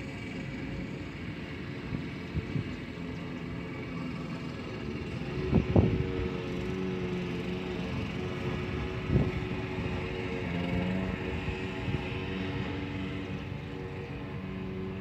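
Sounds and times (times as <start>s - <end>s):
engine running steadily: 0.0s - 15.0s
outdoor background noise: 0.0s - 15.0s.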